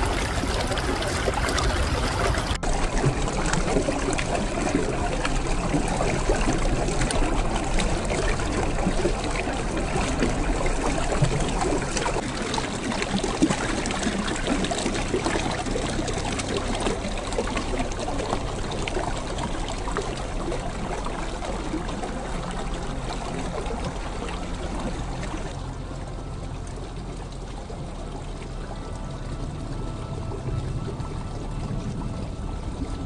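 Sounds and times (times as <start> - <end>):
stream trickling over rocks: 0.0 - 33.0
water drips and splashes: 0.0 - 33.0.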